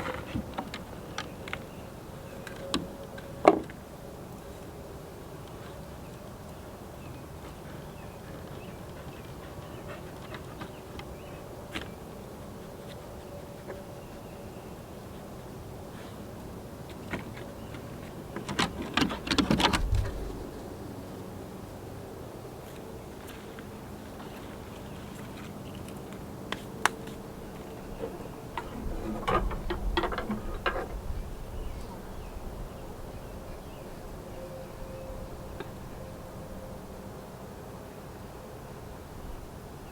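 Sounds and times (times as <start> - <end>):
low background noise: 0.0 - 39.9
outdoor background hum: 0.0 - 39.9.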